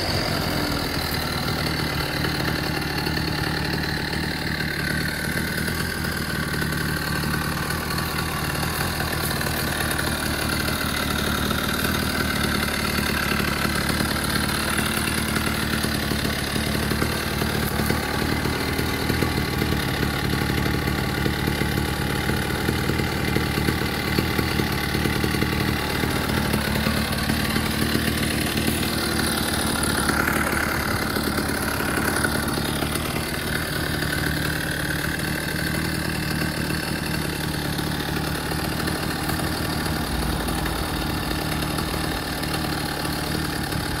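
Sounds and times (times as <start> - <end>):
small petrol engine idling: 0.0 - 44.0.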